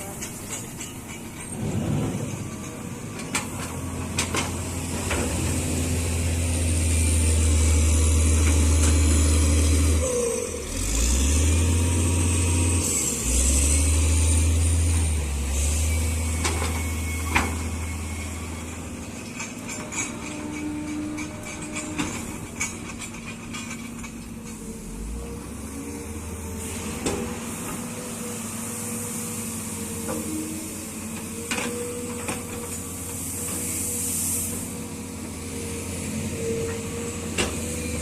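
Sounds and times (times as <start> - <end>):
excavator diesel engine under load: 0.0 - 38.0.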